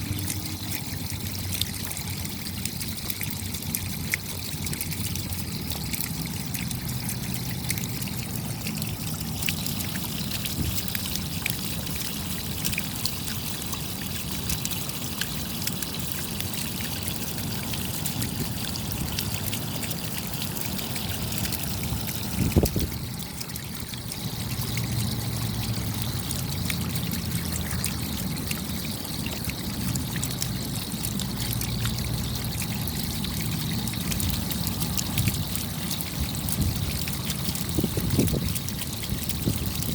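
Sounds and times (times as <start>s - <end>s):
steady rain drops ticking: 0.0s - 39.9s
water trickling and pouring: 0.0s - 39.9s.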